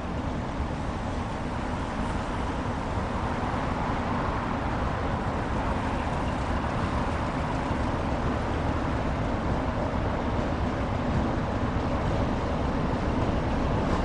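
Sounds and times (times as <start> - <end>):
train rumble and hiss: 0.0 - 14.0.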